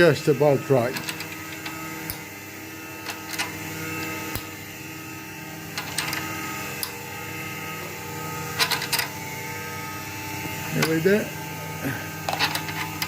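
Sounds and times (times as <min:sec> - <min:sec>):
drum sander humming: 0:00.0 - 0:13.0.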